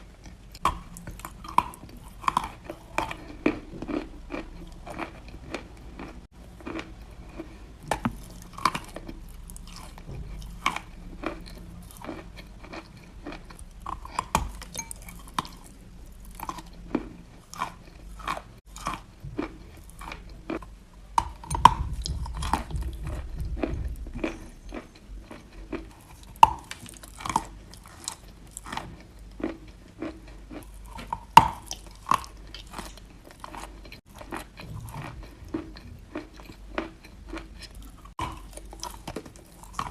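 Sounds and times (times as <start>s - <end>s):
chalk being chewed crunching: 0.1s - 39.9s.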